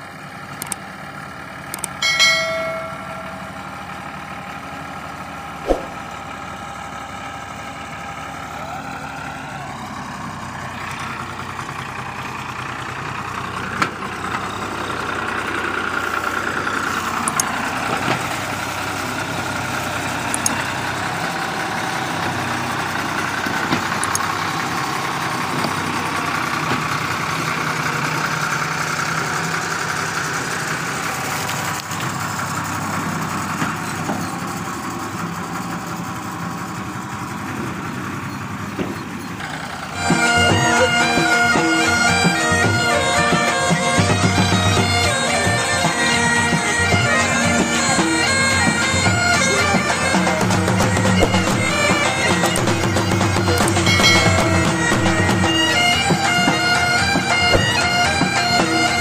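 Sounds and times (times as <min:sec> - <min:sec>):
tractor engine under heavy load: 0:00.0 - 0:59.0.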